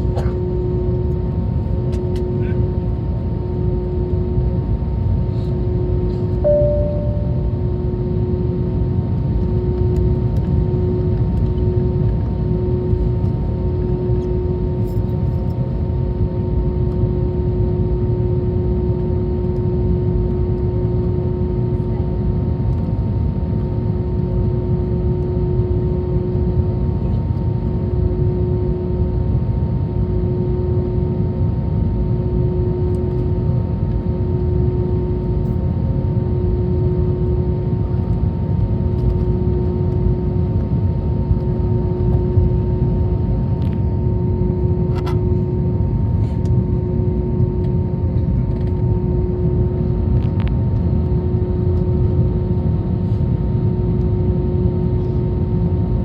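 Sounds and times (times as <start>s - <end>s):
jet engines idling rumble: 0.0s - 28.6s, 29.6s - 56.0s
constant hum tone: 0.0s - 56.0s.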